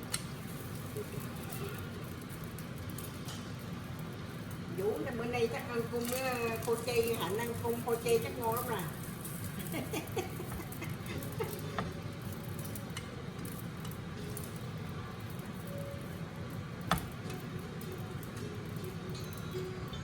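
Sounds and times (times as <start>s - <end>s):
tofu skin deep-frying in oil: 0.0s - 20.0s.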